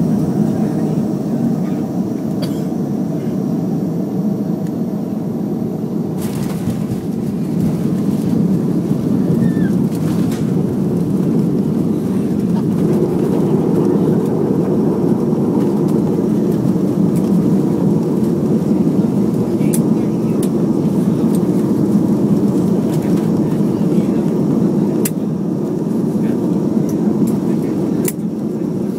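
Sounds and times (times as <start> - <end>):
jet engine rumble in cabin: 0.0 - 28.9.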